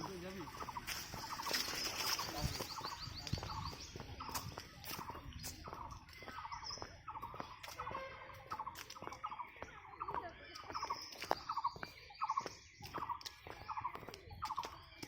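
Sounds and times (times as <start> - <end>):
footsteps on paved path: 0.0 - 15.0.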